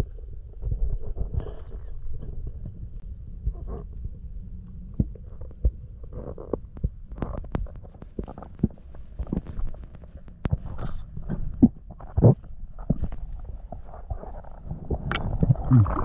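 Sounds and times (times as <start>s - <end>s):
muffled underwater rumble: 0.0s - 16.0s.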